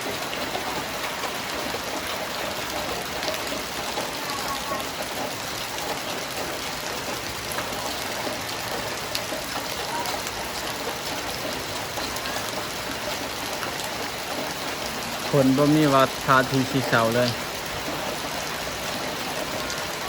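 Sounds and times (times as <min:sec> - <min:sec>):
floodwater rushing: 0:00.0 - 0:20.0
heavy rain pouring: 0:00.0 - 0:20.0.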